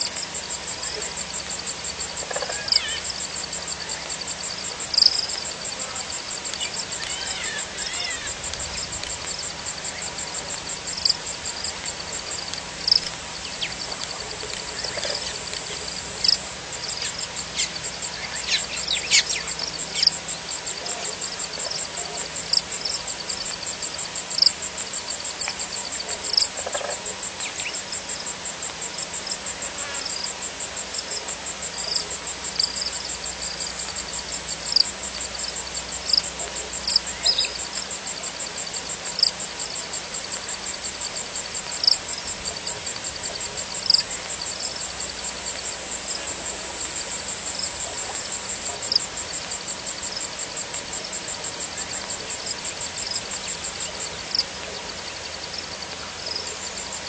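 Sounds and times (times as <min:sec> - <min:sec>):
crickets trilling: 0:00.0 - 0:57.0
sharp insect chirps: 0:00.0 - 0:57.0.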